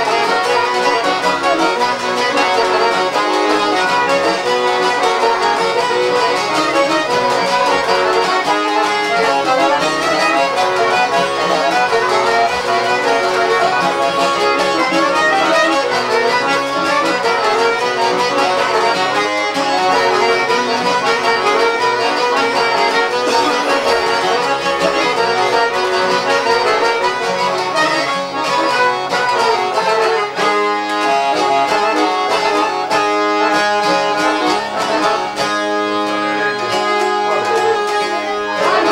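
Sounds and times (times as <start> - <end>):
accordion melody: 0.0 - 38.9
violin melody: 0.0 - 38.9.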